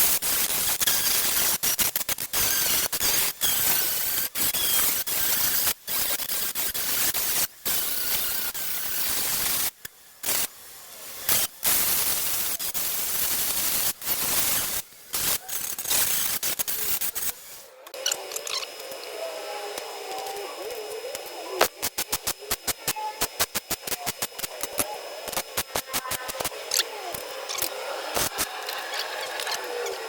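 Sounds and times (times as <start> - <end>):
welder crackling hiss: 0.0 - 30.0.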